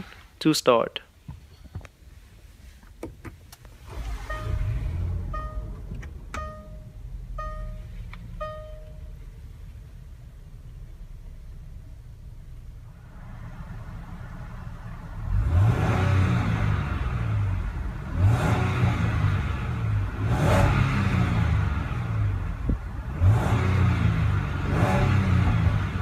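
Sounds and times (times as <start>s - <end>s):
car engine revving: 3.7s - 26.0s.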